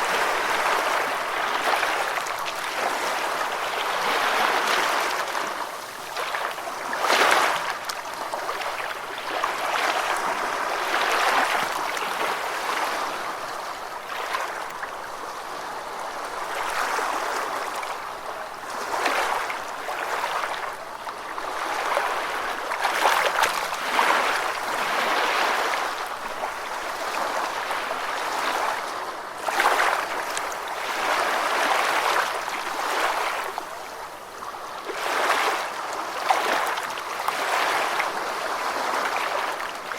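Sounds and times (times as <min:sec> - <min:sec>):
gentle ocean waves: 0:00.0 - 0:39.9.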